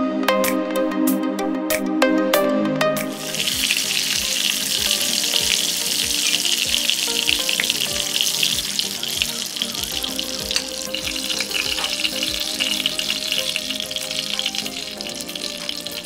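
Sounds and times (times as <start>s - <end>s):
music track: 0.0s - 16.0s
oil sizzling in a pan: 3.1s - 16.0s.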